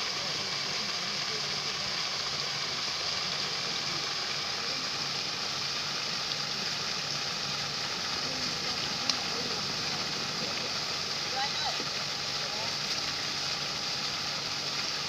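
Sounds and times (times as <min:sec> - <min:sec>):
faint voices: 0:00.0 - 0:15.0
fish splashing: 0:00.4 - 0:15.0.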